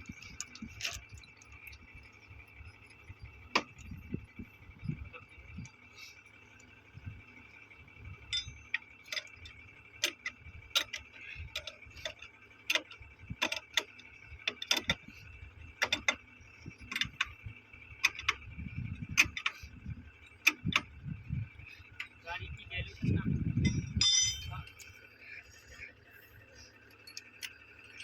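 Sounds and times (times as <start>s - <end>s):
steady high-pitched hum: 0.0s - 28.0s.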